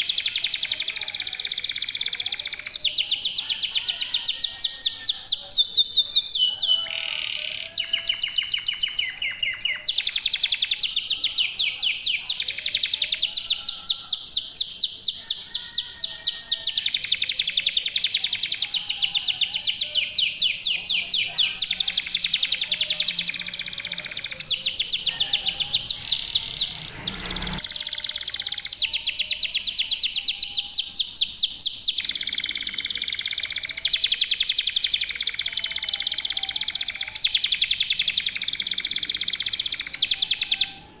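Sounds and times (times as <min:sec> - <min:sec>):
canaries trilling: 0:00.0 - 0:41.0.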